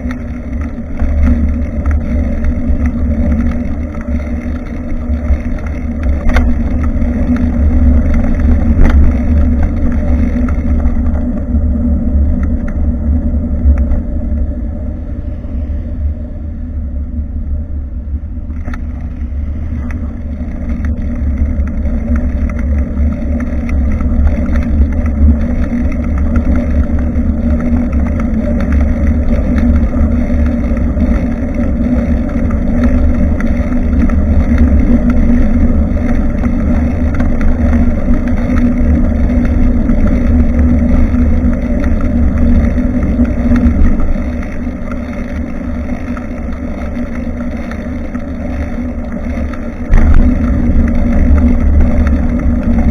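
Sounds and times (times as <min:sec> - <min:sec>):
road and tyre noise: 0:00.0 - 0:52.9
wind rumbling on microphone: 0:00.0 - 0:52.9.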